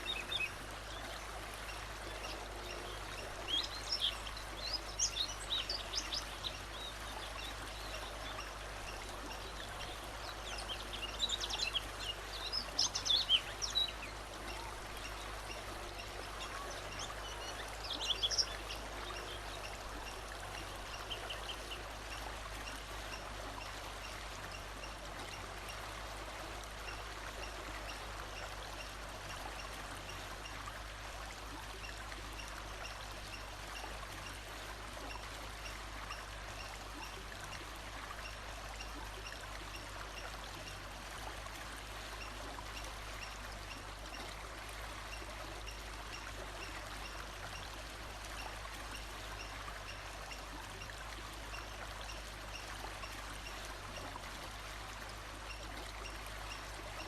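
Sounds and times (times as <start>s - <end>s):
running stream: 0.0s - 57.0s.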